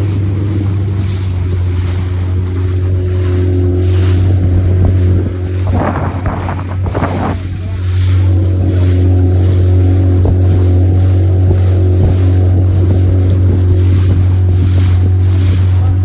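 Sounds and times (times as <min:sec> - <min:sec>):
boat motor humming: 0:00.0 - 0:16.0
wind on microphone: 0:00.0 - 0:16.0.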